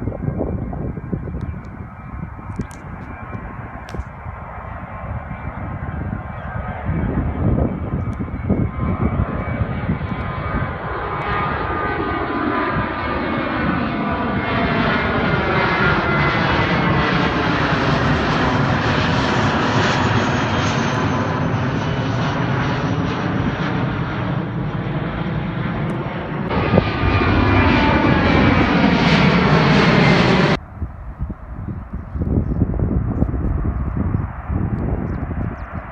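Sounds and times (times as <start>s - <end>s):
jet airliner engines: 0.0s - 35.9s.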